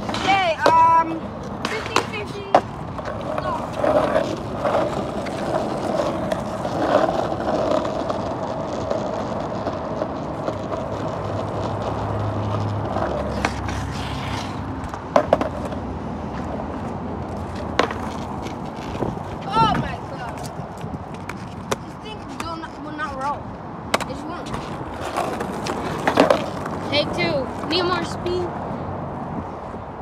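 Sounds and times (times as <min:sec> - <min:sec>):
skateboard clacking on pavement: 0:00.0 - 0:28.4
skateboard wheels rolling on asphalt: 0:00.0 - 0:30.0.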